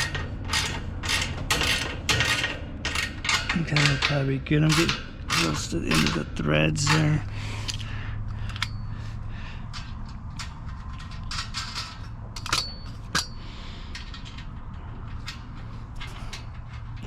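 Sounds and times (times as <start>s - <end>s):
metal clicks and clinks: 0.0s - 8.9s, 9.7s - 17.0s.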